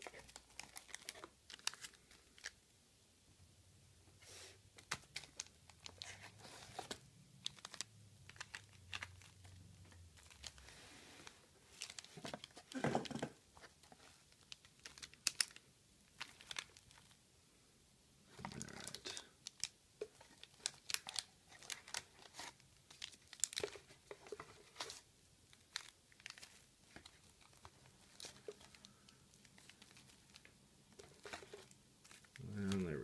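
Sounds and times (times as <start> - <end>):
wax paper wrappers crinkling: 0.0 - 2.6, 4.8 - 17.2, 18.3 - 33.0.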